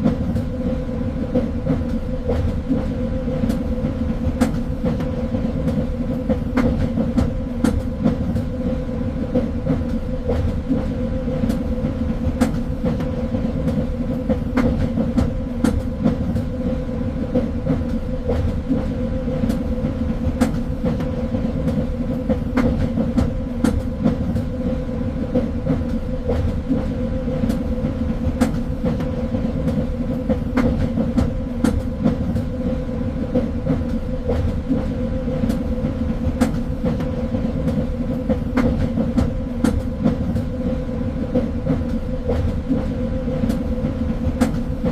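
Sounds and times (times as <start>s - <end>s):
train rumble and hum: 0.0s - 44.9s.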